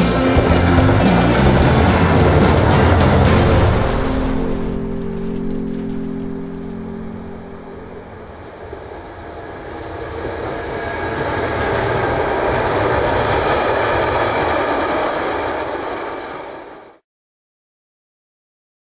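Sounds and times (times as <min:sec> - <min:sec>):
freight train wagons rolling: 0:00.0 - 0:17.0.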